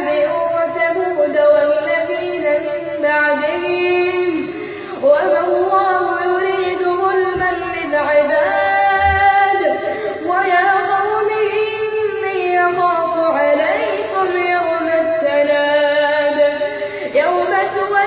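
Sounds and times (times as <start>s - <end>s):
boy reciting melodically: 0.0s - 18.0s.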